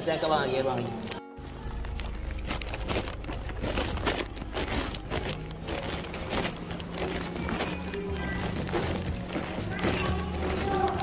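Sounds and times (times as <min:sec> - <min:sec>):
bags rustling and crinkling: 0:00.1 - 0:11.0.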